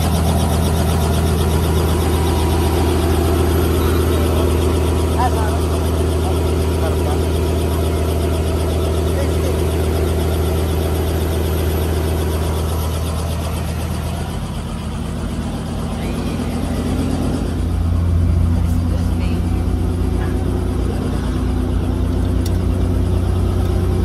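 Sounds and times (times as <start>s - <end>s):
helicopter engine and rotor idling: 0.0s - 24.0s.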